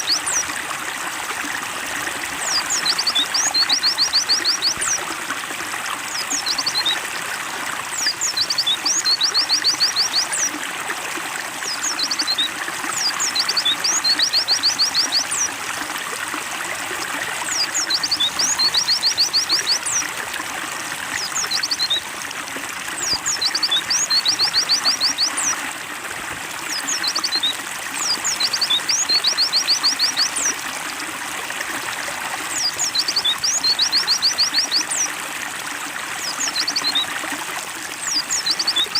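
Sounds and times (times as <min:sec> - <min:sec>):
trickling water: 0:00.0 - 0:38.9.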